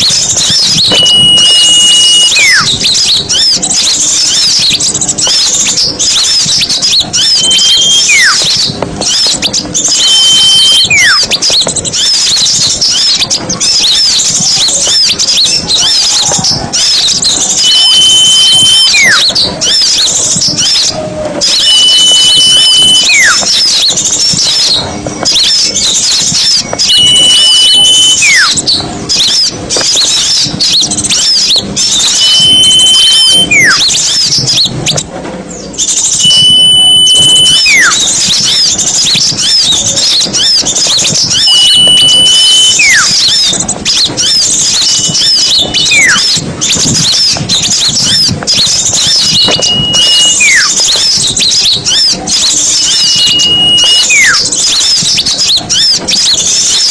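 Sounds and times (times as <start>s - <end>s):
high whistle and falling whistle: 0.0s - 5.5s, 6.1s - 13.2s, 15.8s - 28.6s, 29.2s - 34.7s, 35.8s - 56.9s
songbirds chattering and chirping: 0.0s - 56.9s.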